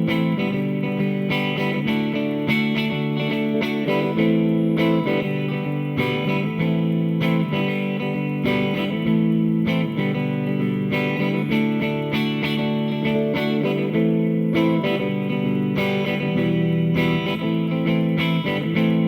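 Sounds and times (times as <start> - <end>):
electric guitar chords ringing: 0.0 - 19.0.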